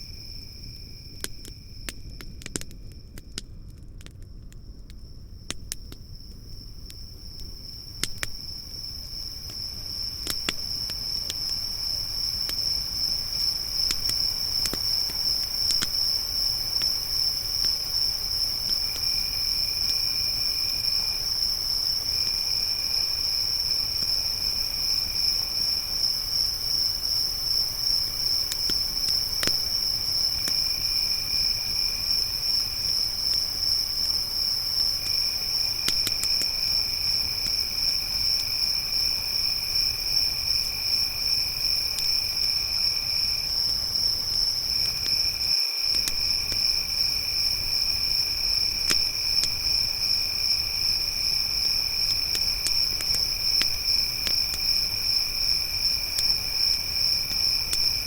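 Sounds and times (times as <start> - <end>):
low insect trill: 0.0 - 3.4, 4.6 - 58.0
crickets trilling: 0.0 - 58.0
campfire crackling and popping: 0.1 - 58.0.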